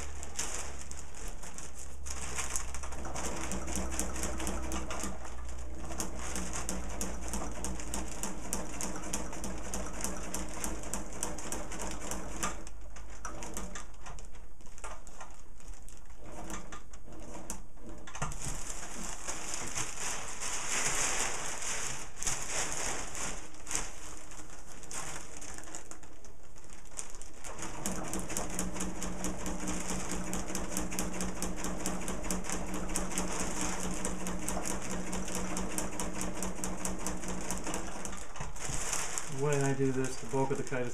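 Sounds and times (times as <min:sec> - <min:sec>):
sewing machine stitching: 0:00.0 - 0:26.0, 0:27.0 - 0:40.9
fabric rustling: 0:00.0 - 0:36.4, 0:37.1 - 0:40.9.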